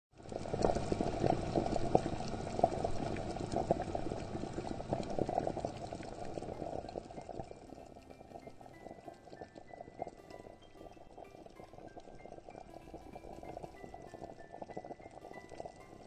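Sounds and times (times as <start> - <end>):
water bubbling and gurgling: 0.2 - 16.0.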